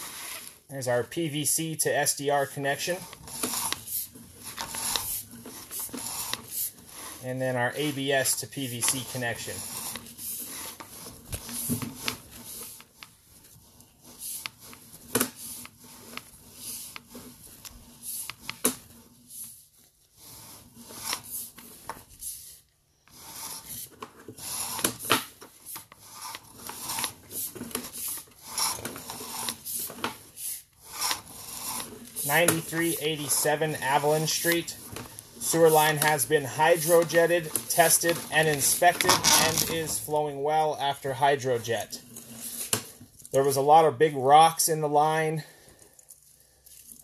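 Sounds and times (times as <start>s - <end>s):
cable rubbing and scraping: 0.0s - 45.4s.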